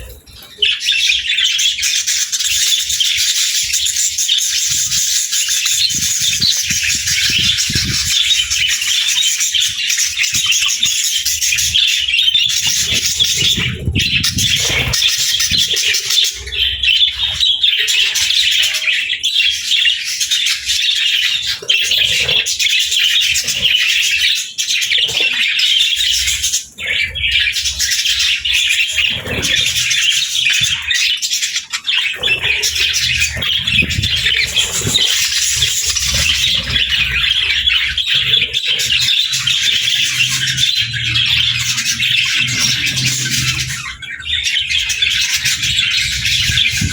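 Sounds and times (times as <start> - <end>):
budgerigars chattering and chirping: 0.0 - 46.9.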